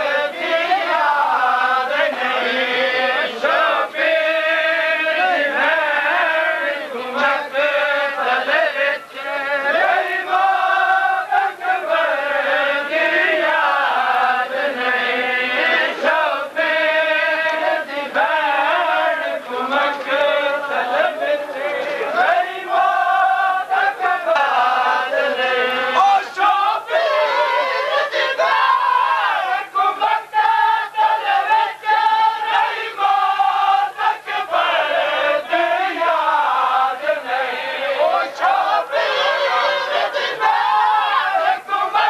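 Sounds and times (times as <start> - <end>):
crowd chanting a lament: 0.0 - 42.0.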